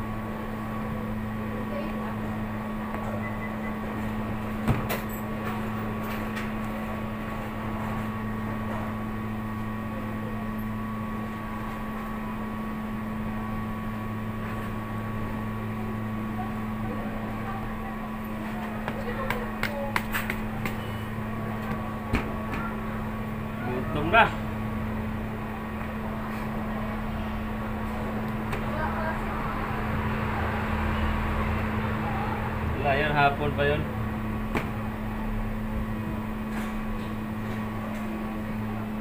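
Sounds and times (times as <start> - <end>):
kitchen machinery hum: 0.0 - 39.0.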